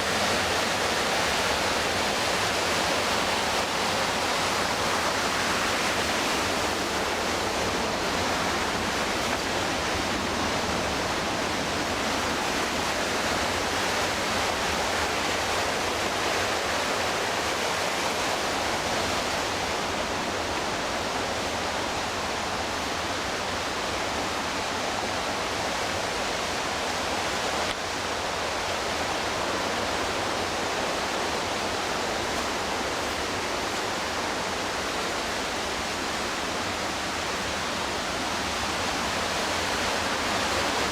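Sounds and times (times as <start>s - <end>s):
whitewater river rushing: 0.0s - 40.9s.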